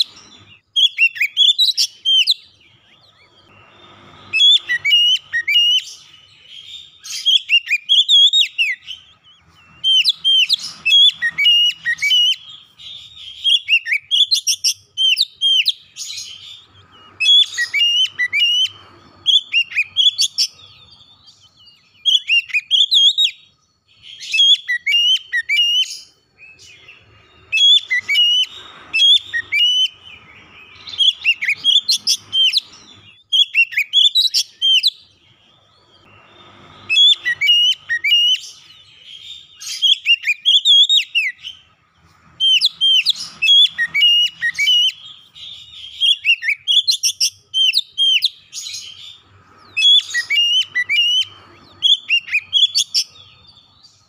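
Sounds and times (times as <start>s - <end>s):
bird singing varied whistles: 0.0s - 41.7s, 42.3s - 54.0s.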